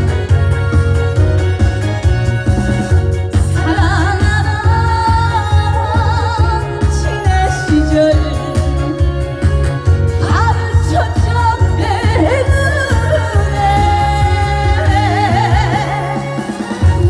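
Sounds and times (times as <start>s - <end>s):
backing track with heavy bass beat: 0.0s - 17.0s
woman singing with vibrato: 2.9s - 17.0s.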